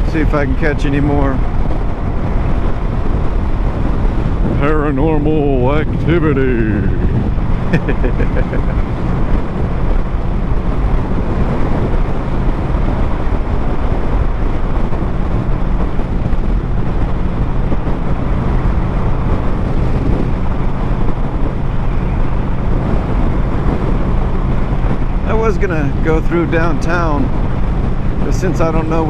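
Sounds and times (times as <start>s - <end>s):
wind rush on microphone: 0.0s - 29.0s.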